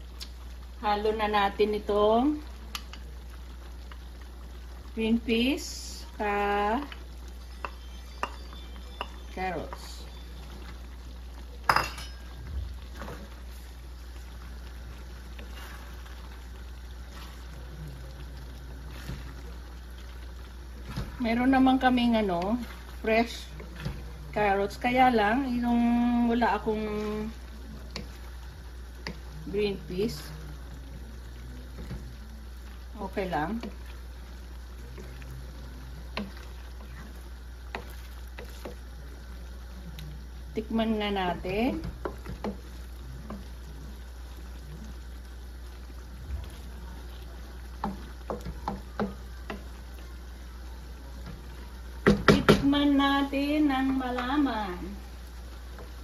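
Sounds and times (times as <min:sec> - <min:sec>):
sauce simmering: 0:00.0 - 0:56.0
wooden spatula stirring stew: 0:02.4 - 0:11.5, 0:12.7 - 0:56.0.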